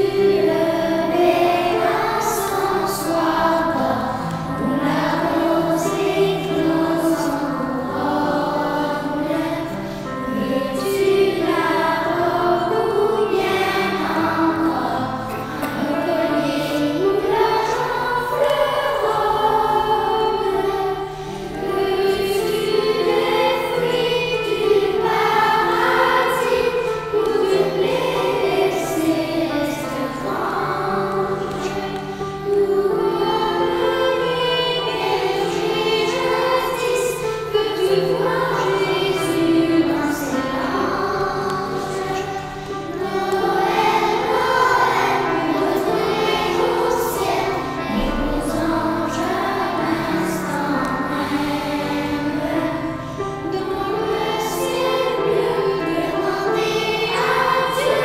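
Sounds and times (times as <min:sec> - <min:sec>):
children's choir singing: 0:00.0 - 0:58.0
instrumental accompaniment: 0:00.0 - 0:58.0.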